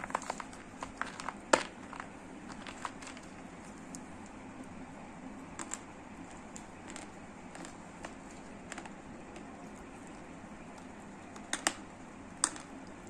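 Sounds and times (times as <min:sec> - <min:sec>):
clay lumps clicking and cracking: 0:00.0 - 0:04.8, 0:05.4 - 0:13.0.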